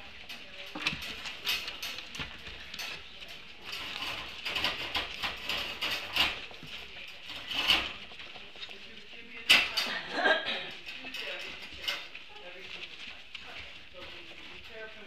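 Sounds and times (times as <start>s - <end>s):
puppies scratching in bedding: 0.0s - 15.0s.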